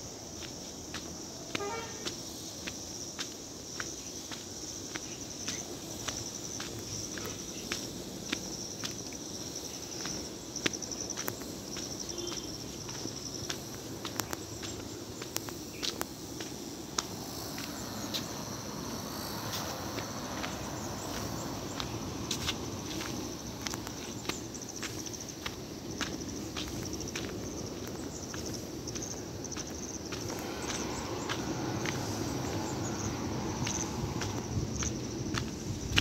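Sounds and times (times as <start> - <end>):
insects buzzing: 0.0 - 36.0
footsteps crunching on gravel: 0.2 - 36.0.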